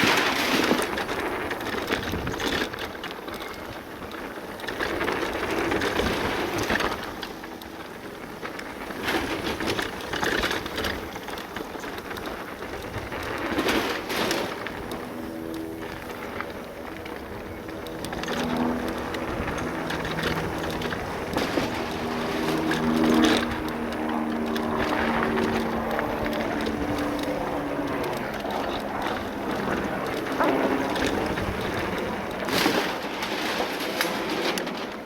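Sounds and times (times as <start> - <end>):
wind on microphone: 0.0 - 33.0
bike frame rattling: 0.0 - 35.0
electric bike motor humming: 0.0 - 35.0
tyres rolling over gravel: 0.0 - 35.0.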